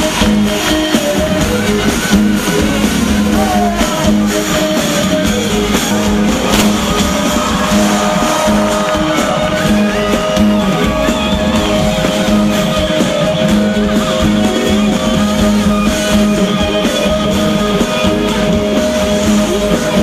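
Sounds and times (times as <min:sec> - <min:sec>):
drum kit steady beat: 0:00.0 - 0:20.0
electric guitar: 0:00.0 - 0:20.0.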